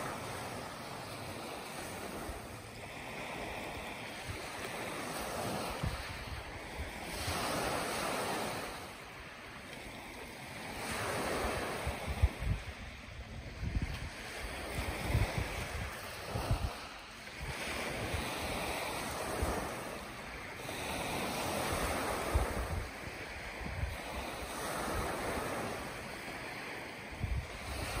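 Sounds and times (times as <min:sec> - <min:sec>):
waves washing up gravel beach: 0:00.0 - 0:28.0
wind buffeting microphone: 0:00.0 - 0:28.0.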